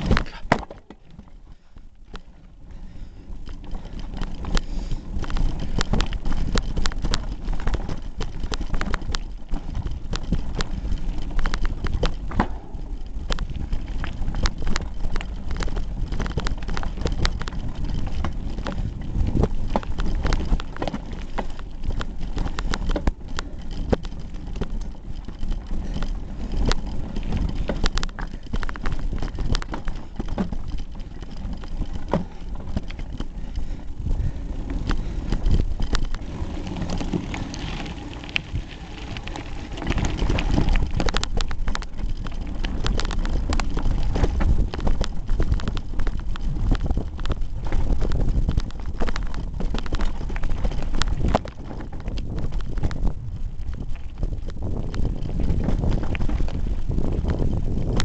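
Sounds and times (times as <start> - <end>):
bike rattling over gravel: 0.0 - 58.0.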